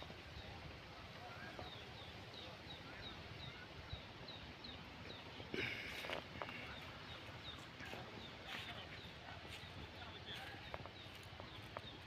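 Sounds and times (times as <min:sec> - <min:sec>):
bird chirping: 0:00.1 - 0:12.0.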